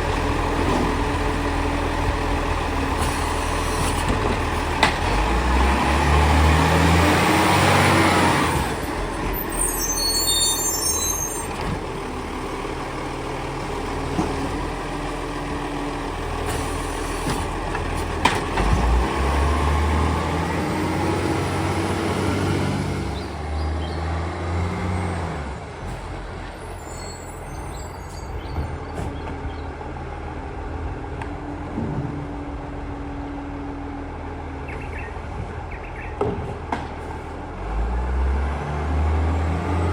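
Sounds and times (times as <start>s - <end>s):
garbage truck diesel engine: 0.0s - 39.9s.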